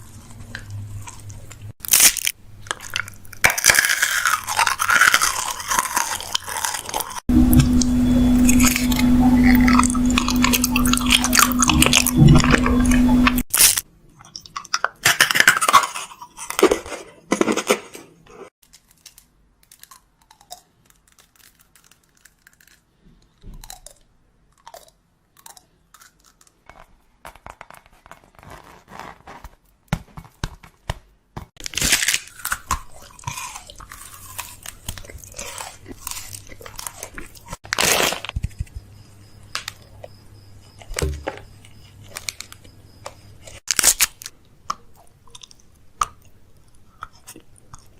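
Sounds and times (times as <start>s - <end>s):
food crunching: 0.0s - 29.5s, 31.5s - 47.9s.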